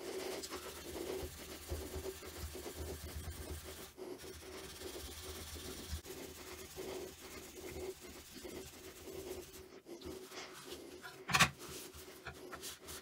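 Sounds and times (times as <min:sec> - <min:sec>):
steel wool scratchy rubbing: 0:00.0 - 0:13.0.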